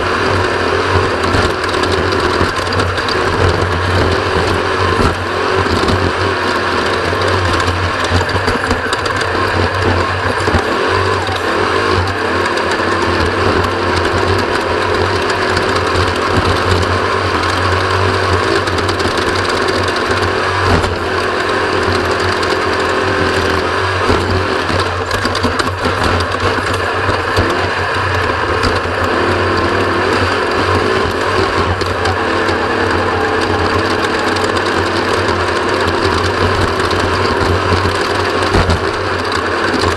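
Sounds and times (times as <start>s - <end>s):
off-road vehicle engine running hard: 0.0s - 39.9s.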